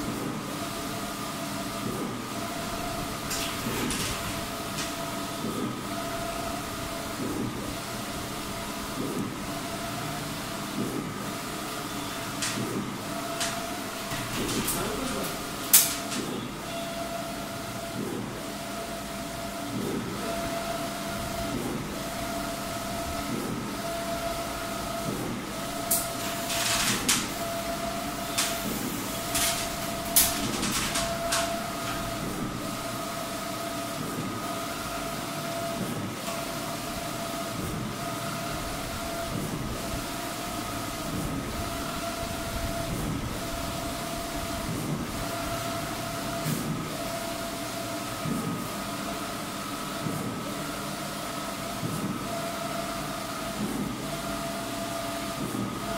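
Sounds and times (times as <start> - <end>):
printer carriage whine: 0.0 - 55.9.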